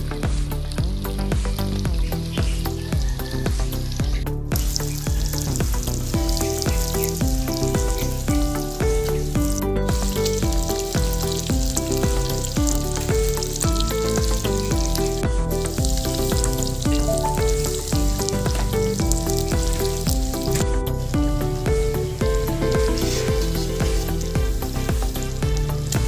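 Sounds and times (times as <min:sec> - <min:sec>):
background music with steady bass: 0:00.0 - 0:26.0
food sizzling in hot oil: 0:04.6 - 0:26.0.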